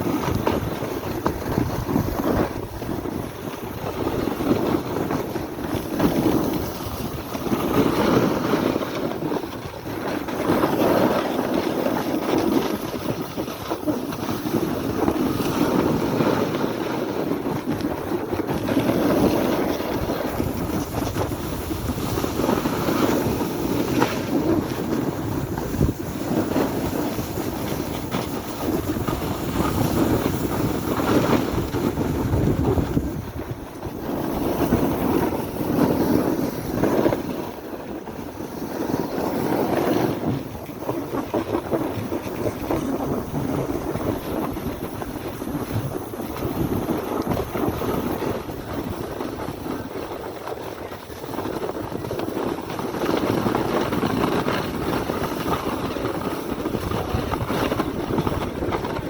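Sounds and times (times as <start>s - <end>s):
wind buffeting the microphone: 0.0s - 59.0s.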